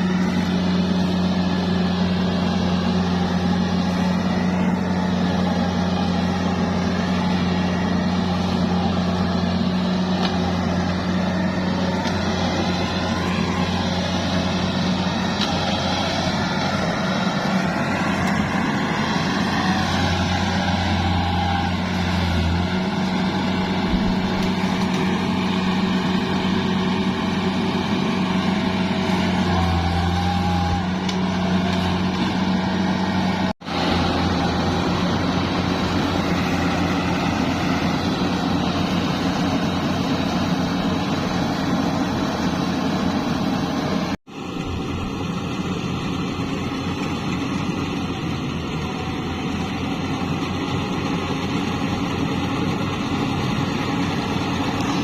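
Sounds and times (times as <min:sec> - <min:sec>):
combine harvester humming: 0:00.0 - 0:55.0.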